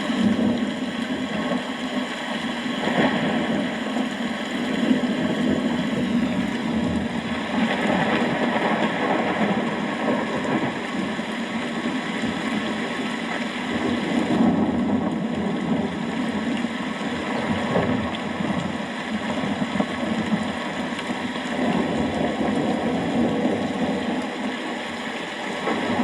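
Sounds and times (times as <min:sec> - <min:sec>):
heavy rain: 0:00.0 - 0:26.0
thunder rumble: 0:02.7 - 0:13.0, 0:13.7 - 0:24.5.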